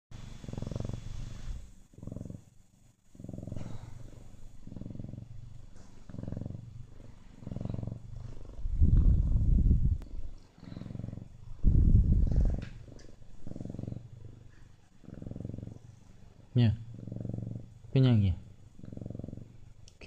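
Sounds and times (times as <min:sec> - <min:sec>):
cat purring: 0:00.2 - 0:20.0.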